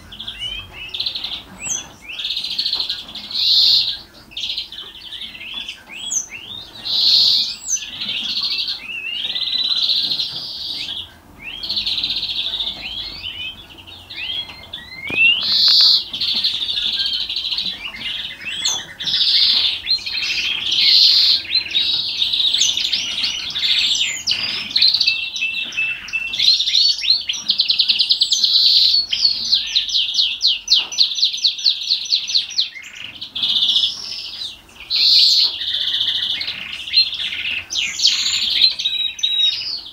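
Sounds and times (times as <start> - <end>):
greenfinch singing: 0.0 - 39.9.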